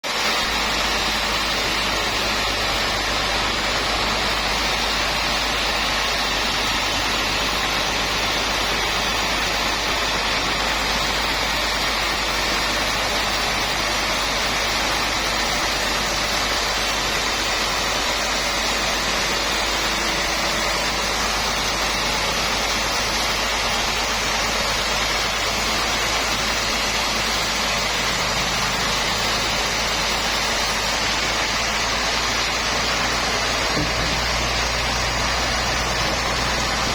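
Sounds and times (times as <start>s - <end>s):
sawmill machinery running: 0.0s - 36.9s.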